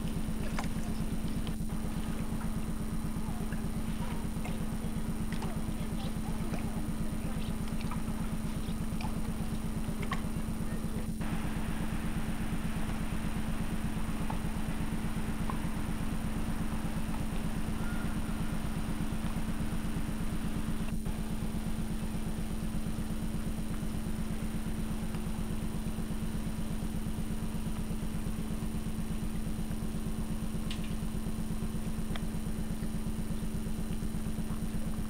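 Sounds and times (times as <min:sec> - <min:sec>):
low electrical hum and buzz: 0:00.0 - 0:35.0.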